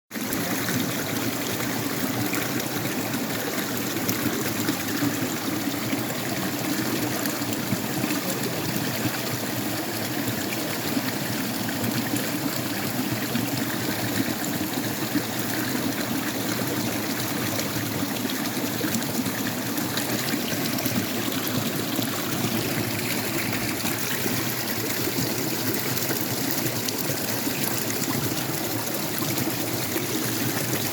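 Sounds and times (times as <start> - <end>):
water flowing: 0.1 - 30.9.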